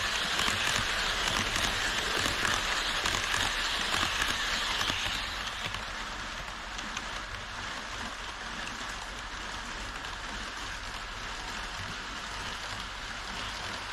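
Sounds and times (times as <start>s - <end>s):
model train wheels rattling: 0.0s - 13.9s.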